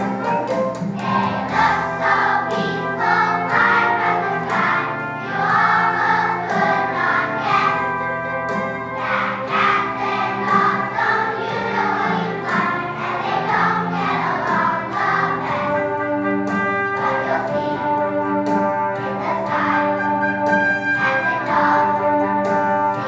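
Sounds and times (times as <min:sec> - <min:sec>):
instrumental accompaniment: 0:00.0 - 0:23.0
children singing together: 0:00.9 - 0:23.0.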